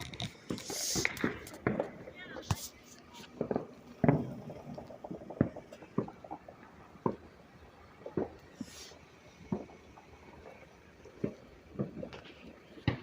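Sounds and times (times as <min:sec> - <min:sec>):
distant gunfire and fireworks bangs: 0:00.0 - 0:02.7, 0:03.3 - 0:07.3, 0:08.0 - 0:09.9, 0:10.5 - 0:13.0.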